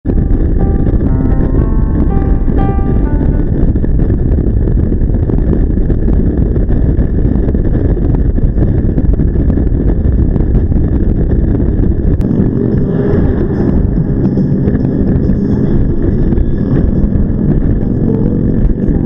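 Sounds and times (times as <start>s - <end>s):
wind buffeting the microphone: 0.0s - 19.0s.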